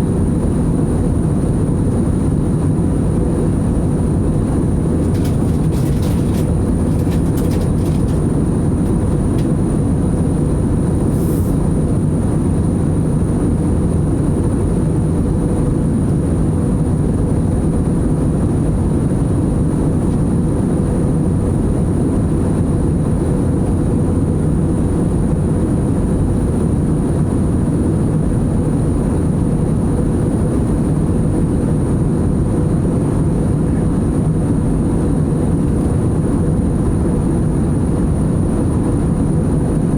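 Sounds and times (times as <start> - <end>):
jet engine and airflow noise: 0.0 - 39.9.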